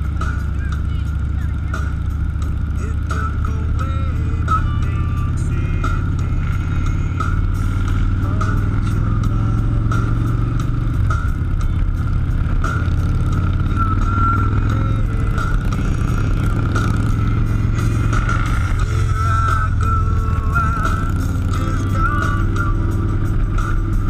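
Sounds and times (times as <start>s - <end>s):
vehicle engine drone: 0.0s - 24.0s.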